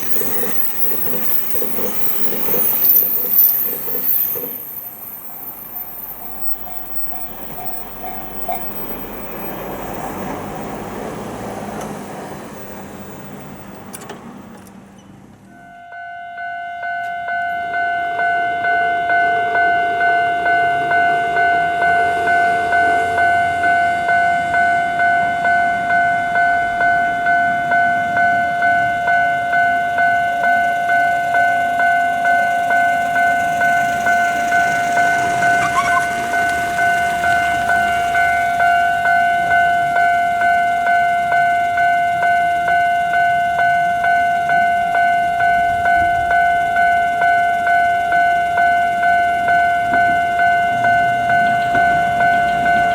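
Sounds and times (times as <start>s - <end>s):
crossing warning bell ringing: 0.0s - 52.9s
train wheel and track noise: 0.0s - 52.9s.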